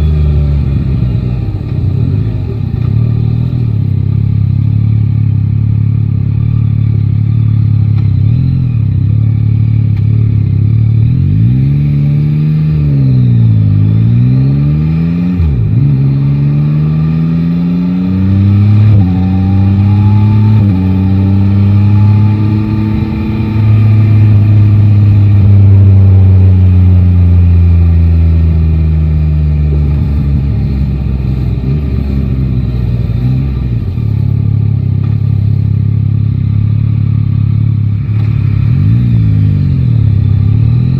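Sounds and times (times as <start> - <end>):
motorcycle engine revving and upshifting: 6.3 - 40.9.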